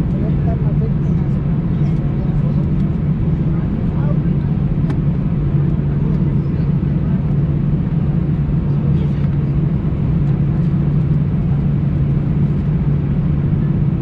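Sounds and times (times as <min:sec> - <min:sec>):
loud low mechanical drone: 0:00.0 - 0:14.0.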